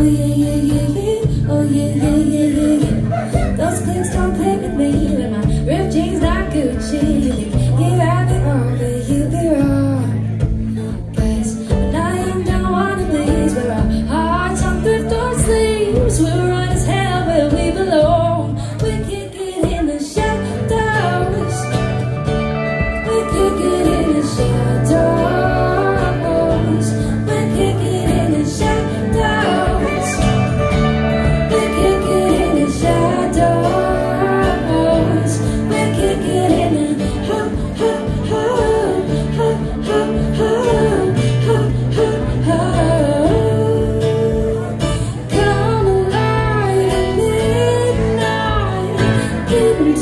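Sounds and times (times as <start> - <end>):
live band playing: 0.0 - 50.0
woman singing: 0.0 - 50.0.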